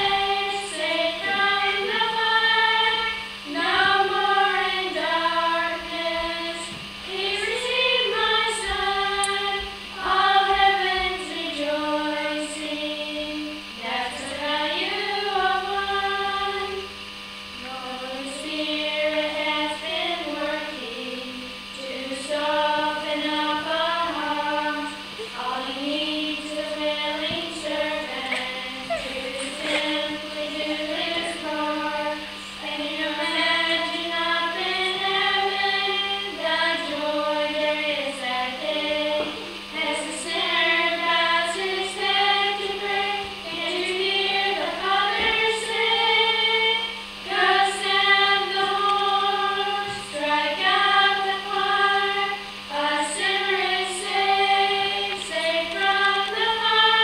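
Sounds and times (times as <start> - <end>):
children and woman singing: 0.0 - 57.0.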